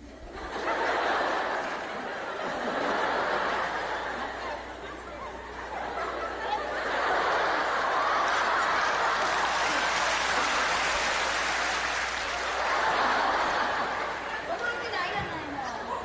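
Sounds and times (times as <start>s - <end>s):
audience laughing and clapping: 0.0s - 16.0s.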